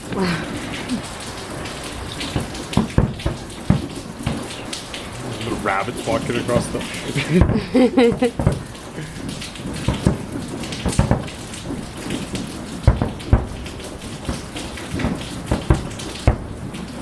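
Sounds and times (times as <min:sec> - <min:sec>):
crackling hiss: 0:00.0 - 0:17.0
distant fireworks booming: 0:00.0 - 0:17.0.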